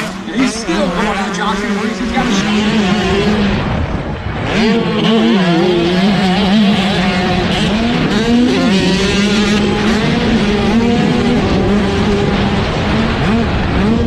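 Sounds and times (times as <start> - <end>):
motocross bike engines: 0.0 - 14.0.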